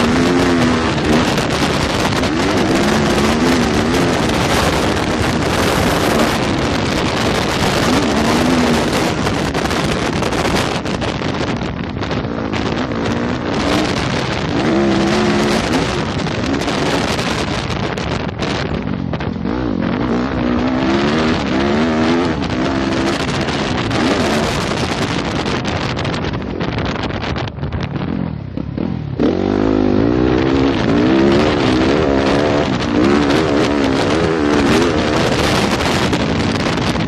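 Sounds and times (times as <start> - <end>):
motorbike engine revving: 0.0 - 37.0
wind rush over microphone: 0.0 - 37.0.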